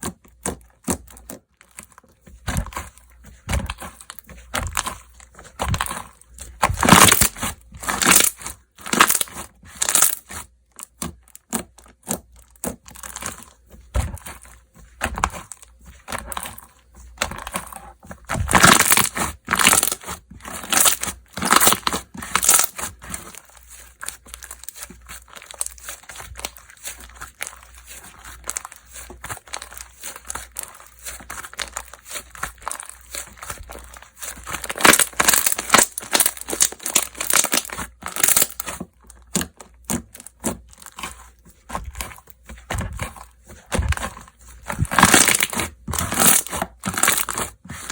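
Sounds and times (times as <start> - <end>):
slime squelching: 0.0 - 47.9.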